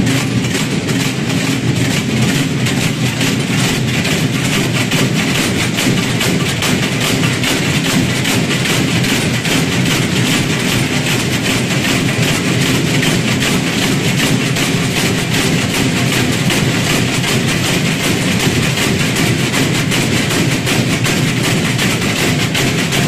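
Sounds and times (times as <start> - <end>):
wooden ratchets rattling: 0.0 - 23.0.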